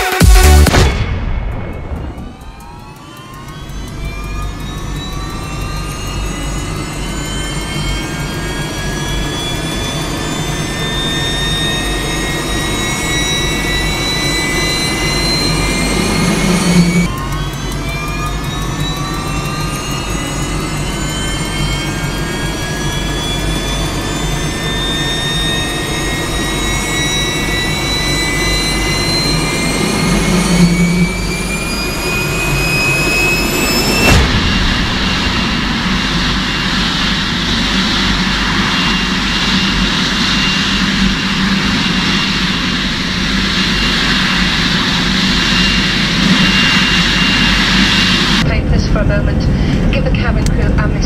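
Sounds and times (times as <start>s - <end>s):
jet turbine engine whining: 0.0s - 51.0s.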